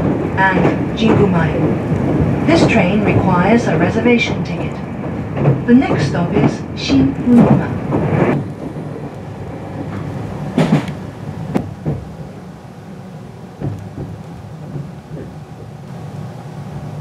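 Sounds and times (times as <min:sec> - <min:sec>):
wheels knocking over rail joints: 0:00.0 - 0:12.4, 0:13.6 - 0:15.8
train cabin rumble: 0:00.0 - 0:17.0.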